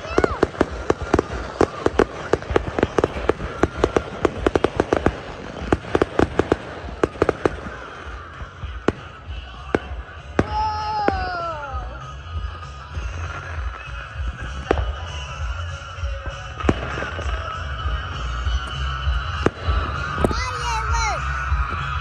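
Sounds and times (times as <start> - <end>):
fireworks exploding: 0.0 - 22.0.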